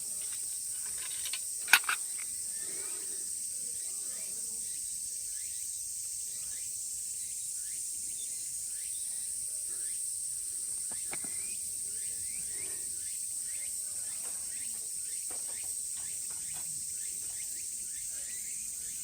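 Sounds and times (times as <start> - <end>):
cicada chorus drone: 0.0 - 19.0.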